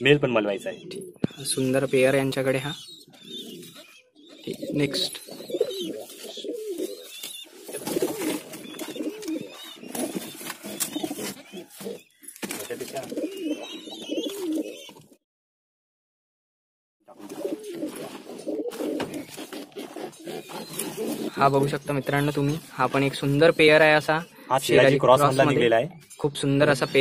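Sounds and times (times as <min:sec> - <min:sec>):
pigeons cooing: 0:00.5 - 0:15.2, 0:17.1 - 0:25.6.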